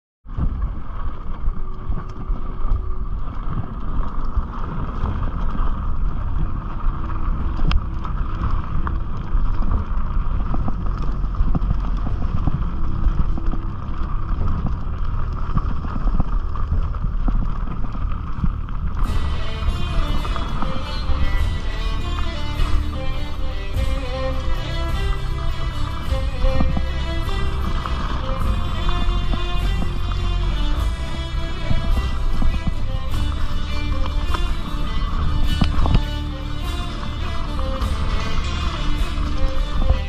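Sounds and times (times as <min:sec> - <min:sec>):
bike rattles and clicks: 0:00.2 - 0:40.0
bike tyres rumbling on dirt: 0:00.2 - 0:40.0
wind buffeting microphone: 0:00.2 - 0:40.0.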